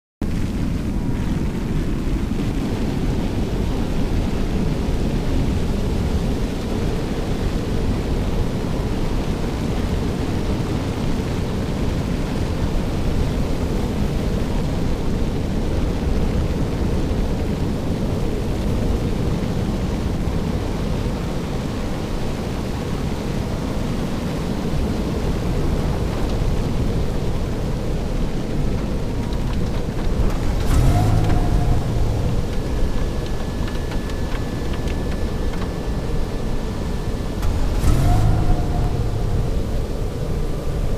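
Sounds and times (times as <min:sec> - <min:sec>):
tornado winds rushing: 0:00.2 - 0:40.9.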